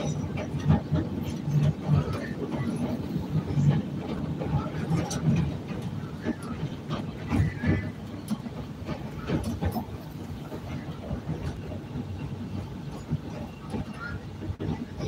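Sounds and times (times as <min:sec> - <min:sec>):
train rumble: 0:00.0 - 0:15.0
wheels clicking on rails: 0:00.0 - 0:15.0.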